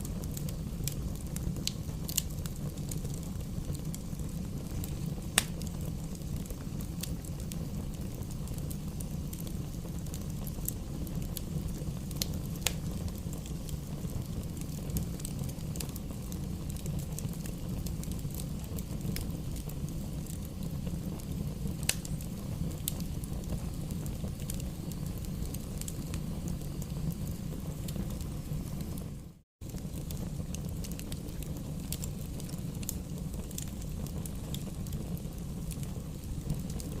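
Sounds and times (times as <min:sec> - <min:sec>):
fire rumbling: 0:00.0 - 0:37.0
logs crackling and popping: 0:00.0 - 0:37.0.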